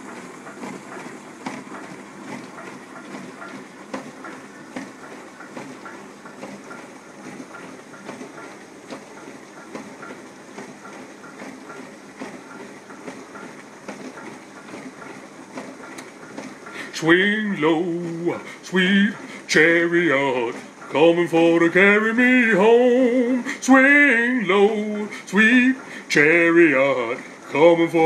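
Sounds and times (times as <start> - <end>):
clicking knocking rhythm: 0.0 - 28.0
dishwasher running: 0.0 - 28.0.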